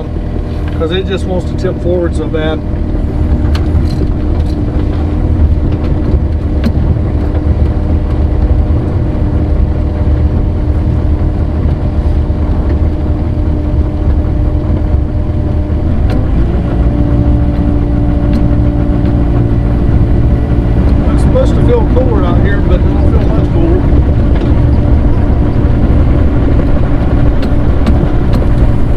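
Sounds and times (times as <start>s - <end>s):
excavator diesel engine: 0.0s - 28.9s.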